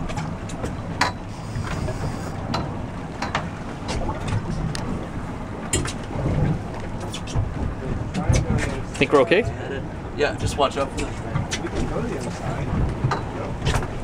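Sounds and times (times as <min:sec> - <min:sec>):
outboard motor rumble: 0:00.0 - 0:14.0
wind buffeting microphone: 0:00.0 - 0:14.0.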